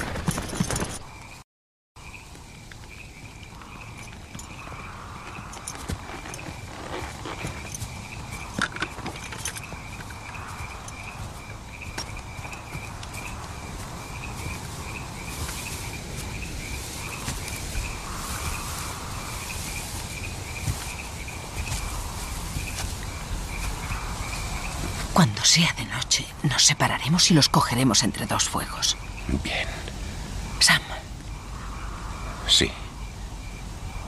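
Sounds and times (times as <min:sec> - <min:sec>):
crickets chirping: 0:00.0 - 0:01.4, 0:02.0 - 0:34.0.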